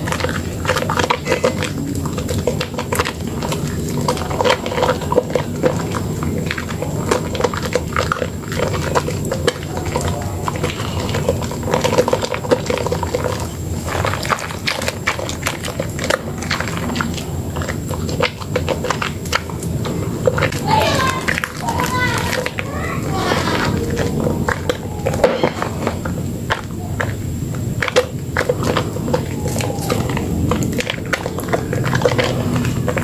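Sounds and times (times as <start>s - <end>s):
wet soap squishing: 0.0s - 33.0s.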